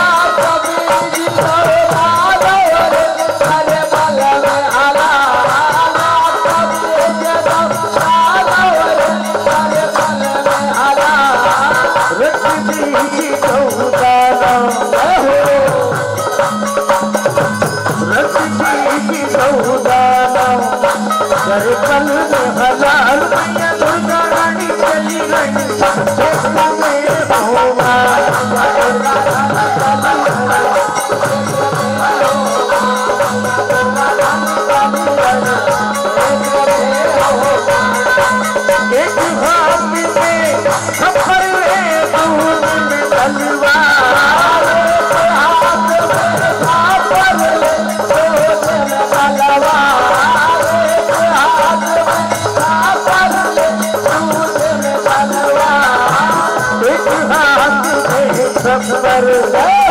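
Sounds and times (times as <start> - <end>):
dholak beat: 0.0 - 59.9
harmonium melody: 0.0 - 59.9
rattling hand percussion: 0.0 - 59.9.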